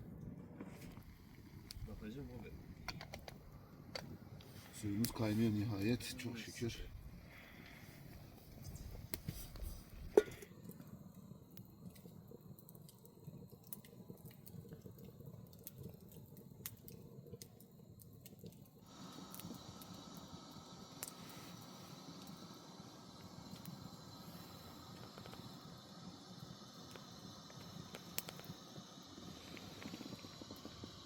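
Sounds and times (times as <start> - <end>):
fire popping: 0.0 - 31.0
wood fire crackling: 0.0 - 31.0.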